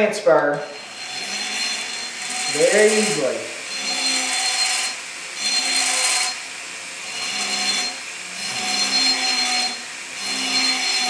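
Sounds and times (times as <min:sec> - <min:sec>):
high-speed tool motor whining: 0:00.5 - 0:11.0.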